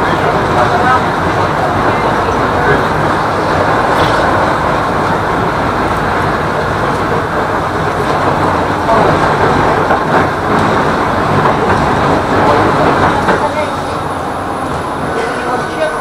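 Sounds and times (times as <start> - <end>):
tram wheels on rails: 0.0 - 16.0.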